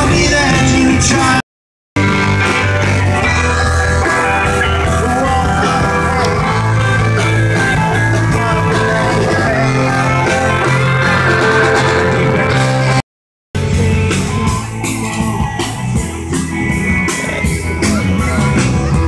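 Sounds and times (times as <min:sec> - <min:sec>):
rock band playing: 0:00.0 - 0:01.4, 0:02.0 - 0:13.0, 0:13.6 - 0:19.0
electric guitar: 0:02.0 - 0:13.0, 0:13.6 - 0:19.0
held bass notes: 0:02.0 - 0:13.0, 0:13.6 - 0:19.0.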